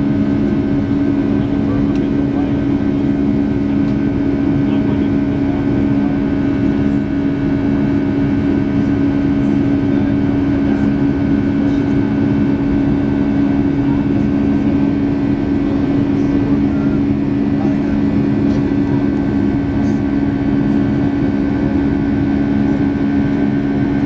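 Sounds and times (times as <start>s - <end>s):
jet engine drone in cabin: 0.0s - 24.0s.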